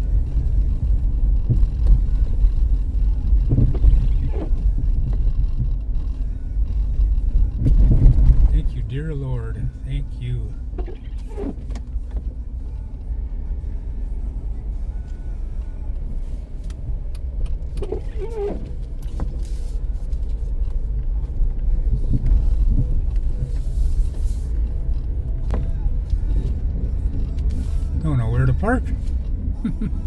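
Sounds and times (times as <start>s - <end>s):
car driving rumble: 0.0s - 30.0s.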